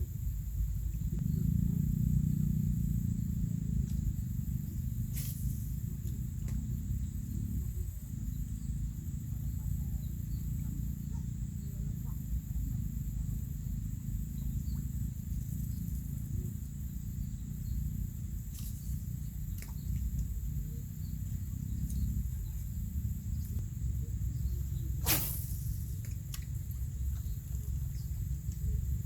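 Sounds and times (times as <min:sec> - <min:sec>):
high insect drone: 0:00.0 - 0:29.0
low rumble: 0:00.0 - 0:29.0.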